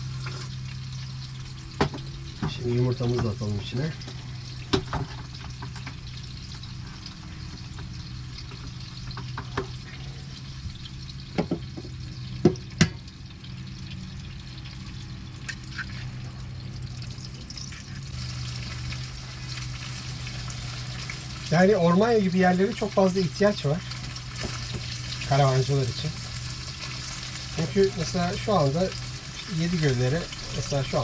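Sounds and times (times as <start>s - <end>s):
food sizzling in a pan: 0.0s - 31.0s
steady low hum: 0.0s - 31.0s.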